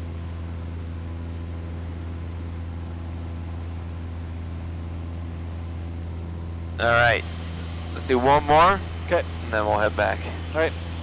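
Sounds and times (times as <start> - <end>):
airplane engine and propeller drone: 0.0 - 11.0.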